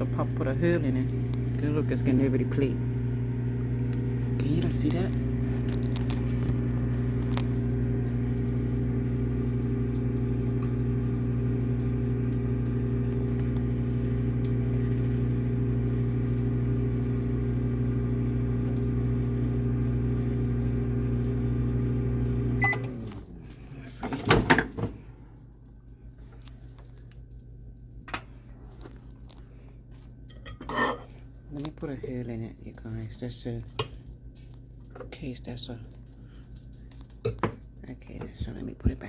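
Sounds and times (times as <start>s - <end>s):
microwave oven humming: 0.0s - 39.0s.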